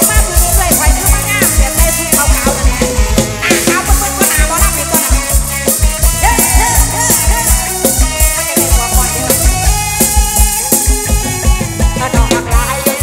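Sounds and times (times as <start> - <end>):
fast kick drum beat: 0.0 - 13.0
live band music: 0.0 - 13.0
wavering lead melody: 0.0 - 13.0.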